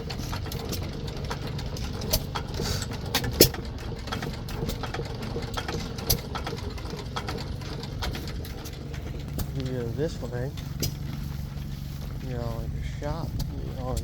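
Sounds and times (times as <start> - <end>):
engine pops and clicks: 0.0 - 14.0
stationary engine rumble: 0.0 - 14.0.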